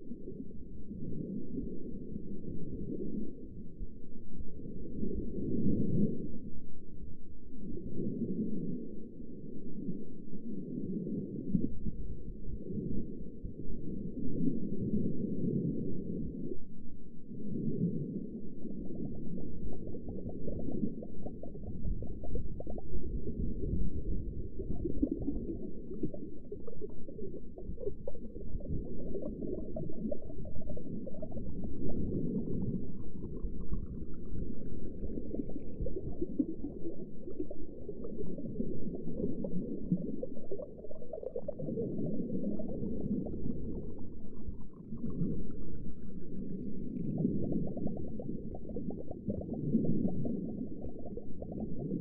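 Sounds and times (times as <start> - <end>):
underwater rumbling and bubbling: 0.0 - 52.0.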